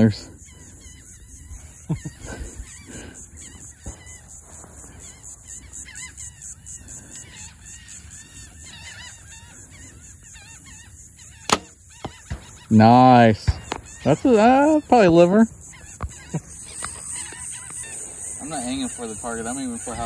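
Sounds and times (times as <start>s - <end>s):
faint bird chirps: 0.0s - 20.0s
high pulsing hiss: 0.0s - 20.0s.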